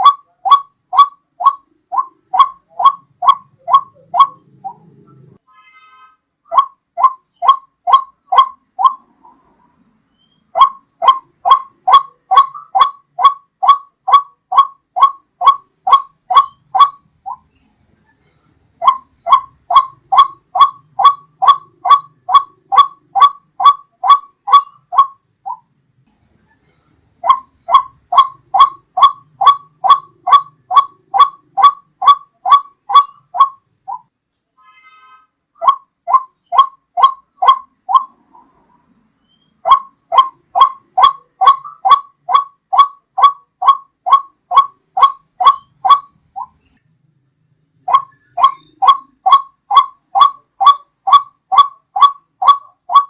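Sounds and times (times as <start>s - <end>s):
bird calls: 0.0s - 5.4s, 6.5s - 25.7s, 26.4s - 34.1s, 35.6s - 46.8s, 47.8s - 53.0s.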